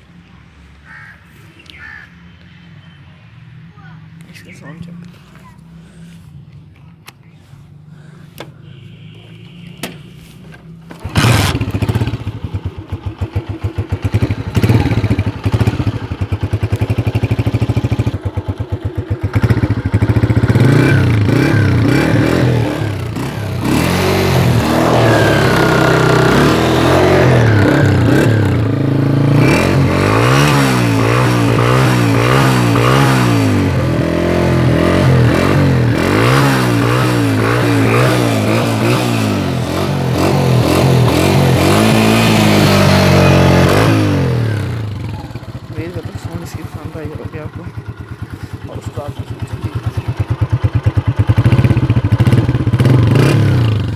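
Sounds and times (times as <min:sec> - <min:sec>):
motorcycle engine starting and revving: 0:03.4 - 0:53.9.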